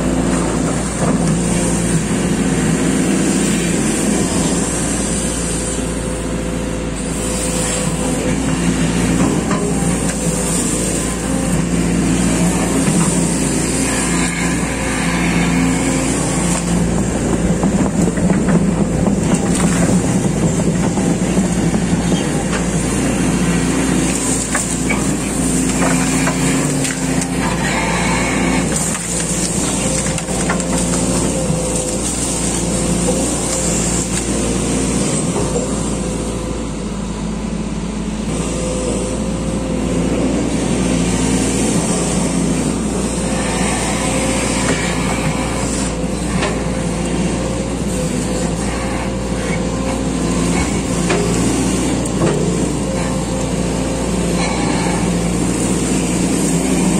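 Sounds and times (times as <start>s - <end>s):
excavator engine and hydraulics: 0.0s - 56.9s.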